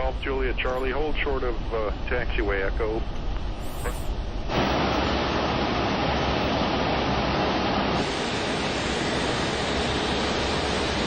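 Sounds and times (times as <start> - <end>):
aircraft cockpit rushing noise: 0.1 - 11.0.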